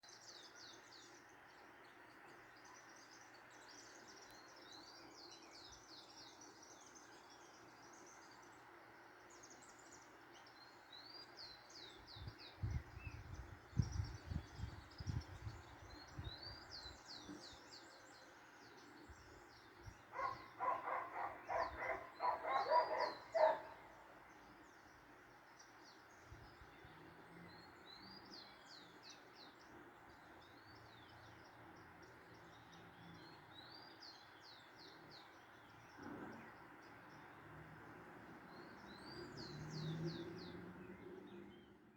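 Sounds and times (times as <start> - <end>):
rapid pulsed bird calls: 0.0 - 41.9
small birds chirping: 0.0 - 41.9.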